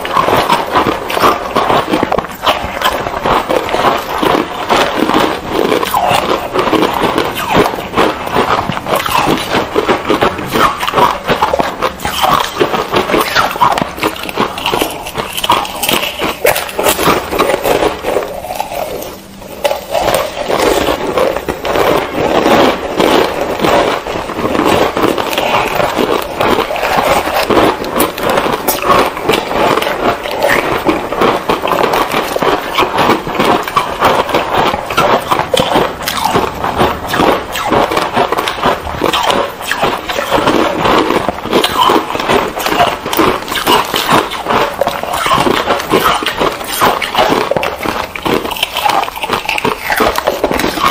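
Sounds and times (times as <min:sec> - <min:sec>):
ice crunching while chewed: 0:00.0 - 0:50.9.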